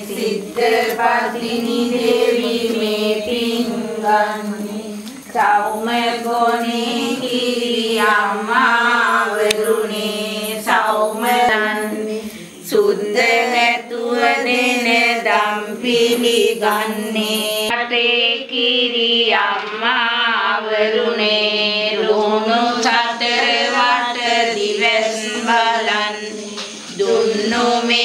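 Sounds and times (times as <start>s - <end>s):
person singing chant-like melody: 0.0s - 28.0s.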